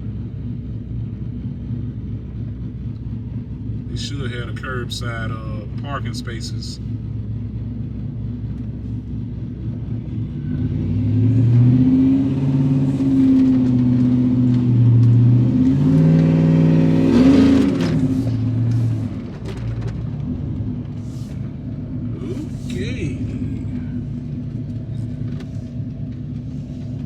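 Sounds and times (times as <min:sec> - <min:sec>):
pickup truck engine revving: 0:03.2 - 0:27.0.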